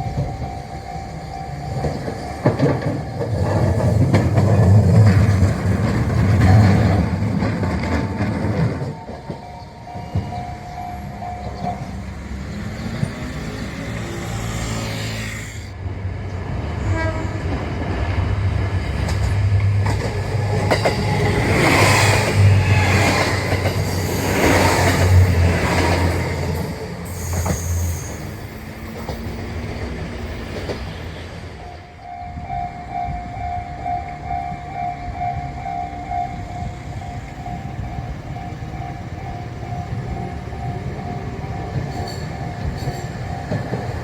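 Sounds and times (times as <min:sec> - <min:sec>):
diesel train engine droning: 0:00.0 - 0:44.0
train wheels clattering over rails: 0:01.5 - 0:15.0, 0:17.4 - 0:31.6, 0:32.4 - 0:44.0.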